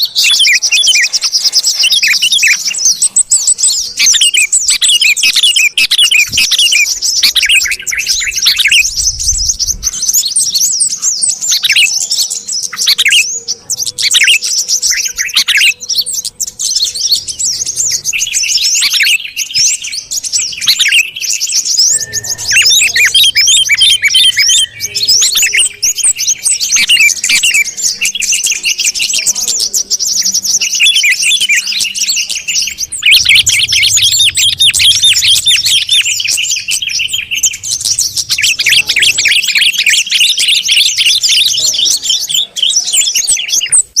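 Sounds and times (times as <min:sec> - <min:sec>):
chorus of bird chirps: 0:00.0 - 0:44.0.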